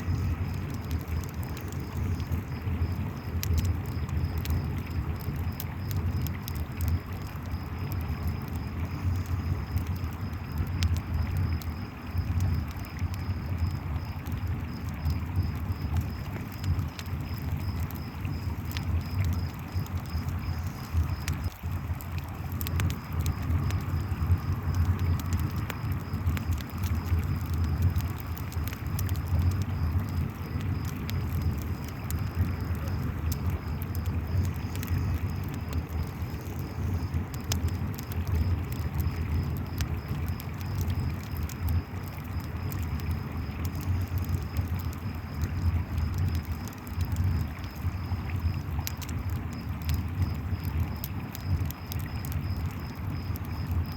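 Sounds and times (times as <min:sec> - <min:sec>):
campfire crackling: 0:00.0 - 0:53.9
crickets chirping: 0:00.0 - 0:53.9.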